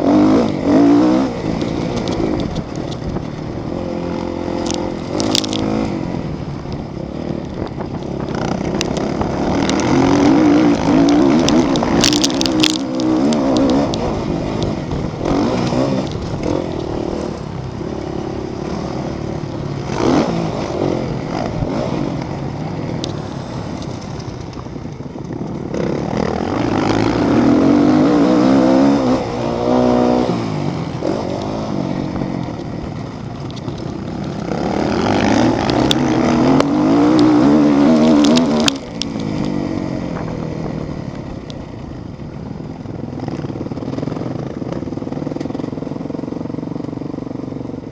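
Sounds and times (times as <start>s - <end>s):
motocross bike engines revving: 0.0s - 47.9s.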